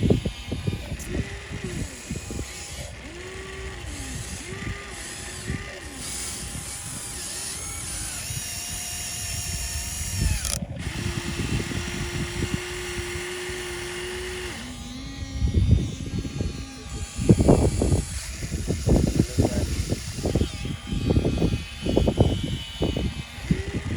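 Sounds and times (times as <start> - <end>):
small electric motors whining: 0.0 - 23.9.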